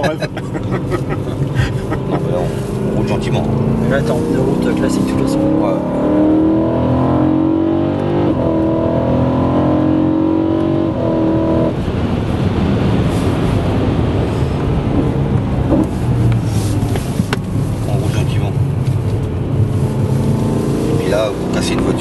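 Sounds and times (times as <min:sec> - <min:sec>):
car engine accelerating: 0:00.0 - 0:22.0
road and tyre noise: 0:00.0 - 0:22.0.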